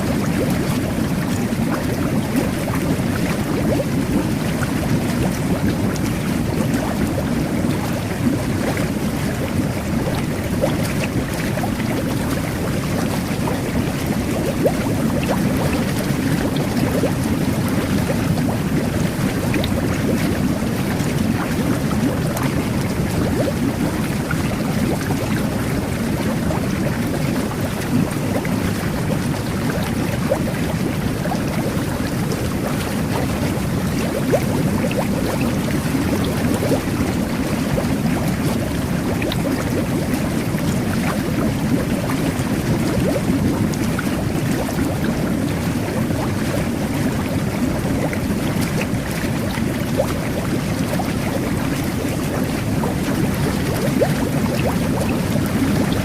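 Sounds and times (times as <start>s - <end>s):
jet bath water churning: 0.0s - 56.0s.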